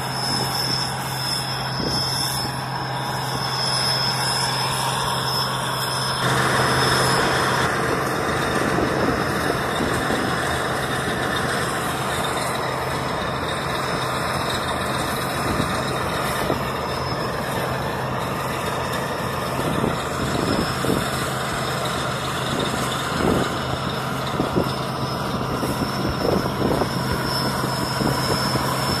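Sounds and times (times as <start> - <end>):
combine harvester drone: 0.0 - 29.0.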